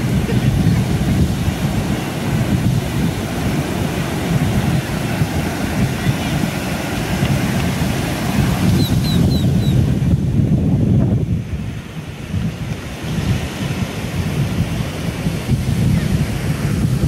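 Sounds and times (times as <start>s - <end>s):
ocean surf breaking on beach: 0.0s - 17.0s
wind buffeting microphone: 0.0s - 17.0s.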